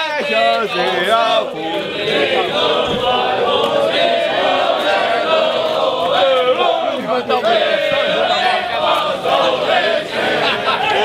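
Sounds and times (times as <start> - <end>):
group of people singing: 0.0 - 11.0.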